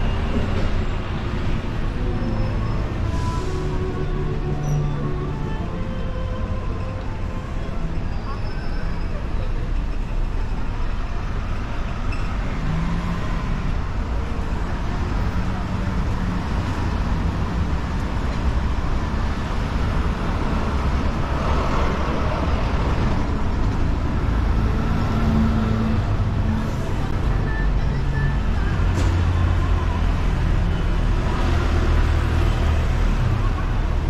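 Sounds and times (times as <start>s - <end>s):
city road traffic: 0.0s - 34.0s.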